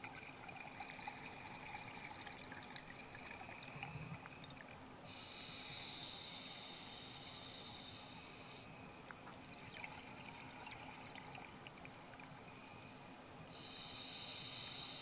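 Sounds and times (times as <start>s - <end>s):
soft underwater hiss: 0.8s - 15.0s.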